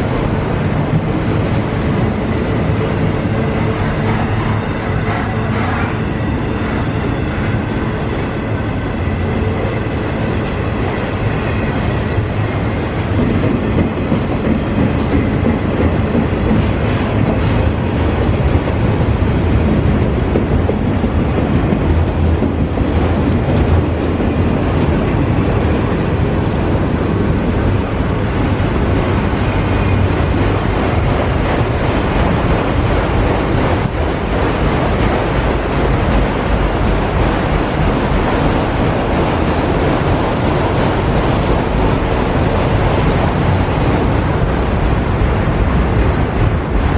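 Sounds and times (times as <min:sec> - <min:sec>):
train wheels clicking on rail joints: 0:00.0 - 0:46.9
wind buffeting microphone: 0:00.0 - 0:46.9.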